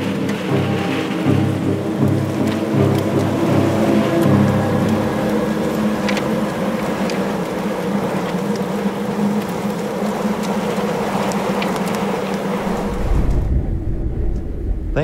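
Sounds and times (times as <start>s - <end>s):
constant low hum: 0.0s - 15.0s
rushing outdoor noise: 0.0s - 15.0s.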